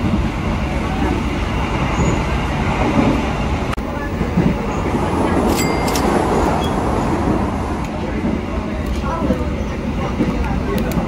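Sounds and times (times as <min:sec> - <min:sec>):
rumble of train wheels: 0:00.0 - 0:11.0.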